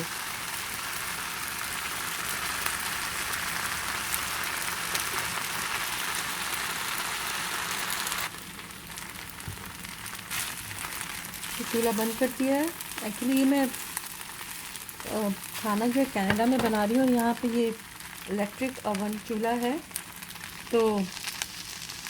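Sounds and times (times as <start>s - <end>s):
noodles sizzling in a pan: 0.0s - 22.0s.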